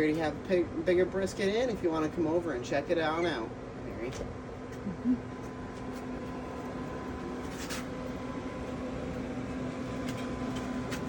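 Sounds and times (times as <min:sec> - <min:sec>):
fan blowing: 0:00.0 - 0:11.0
pellet smoker mechanical hum: 0:00.0 - 0:11.0.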